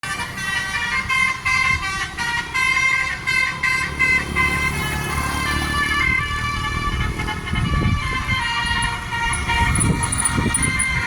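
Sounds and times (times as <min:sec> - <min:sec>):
bus horn melody: 0:00.0 - 0:11.0.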